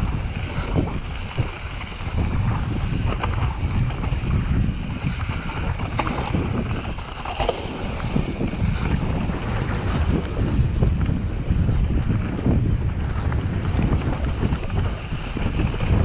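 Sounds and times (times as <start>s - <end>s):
bike clicks and rattles: 0.0s - 16.0s
wind rushing over microphone: 0.0s - 16.0s.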